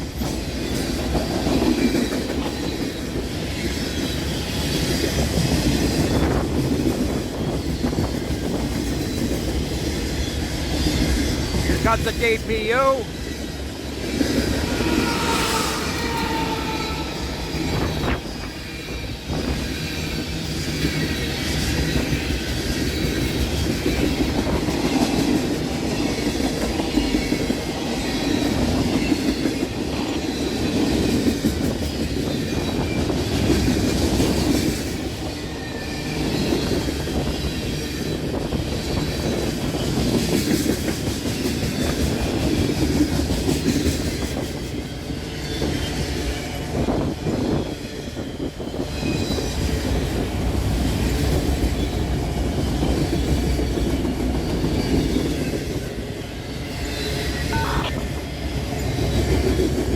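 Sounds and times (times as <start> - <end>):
clickety-clack over rail joints: 0.0 - 14.6, 17.8 - 57.5, 58.1 - 59.9
steel wheels rumbling on rail: 0.0 - 59.9.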